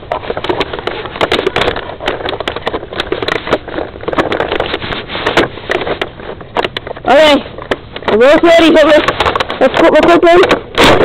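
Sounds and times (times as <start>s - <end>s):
plastic clicks and knocks: 0.0s - 11.0s.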